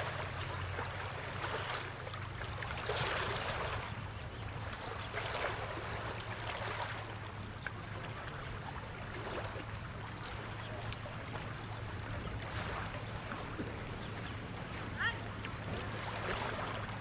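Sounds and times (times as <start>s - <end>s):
boat engine hum: 0.0s - 17.0s
water rushing along hull: 0.0s - 17.0s.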